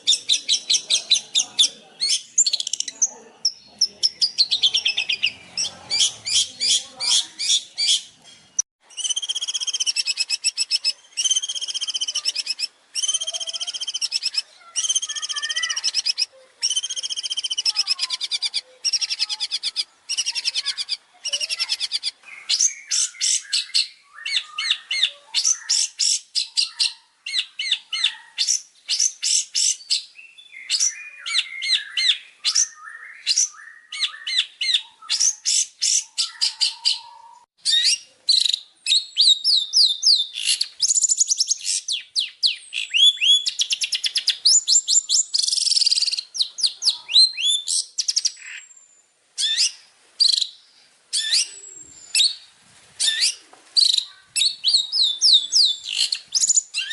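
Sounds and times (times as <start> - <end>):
shrike singing chirps and trills: 0.0 - 56.9.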